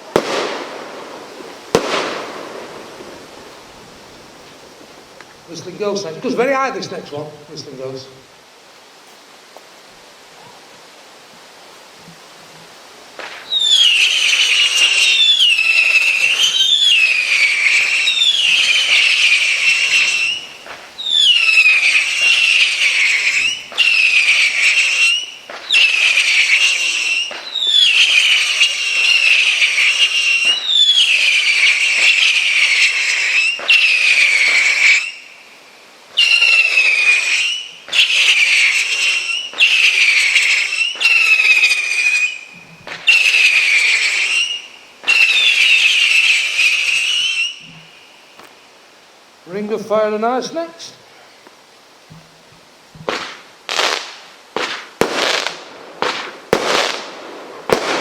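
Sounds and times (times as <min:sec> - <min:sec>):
firework whistling shots: 0:00.0 - 0:06.4, 0:13.2 - 0:48.5, 0:53.0 - 0:58.0.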